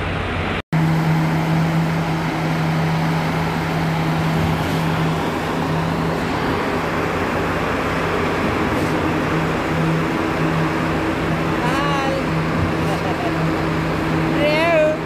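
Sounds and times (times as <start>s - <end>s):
engine humming: 0.0s - 15.0s
wash of noise: 0.0s - 15.0s.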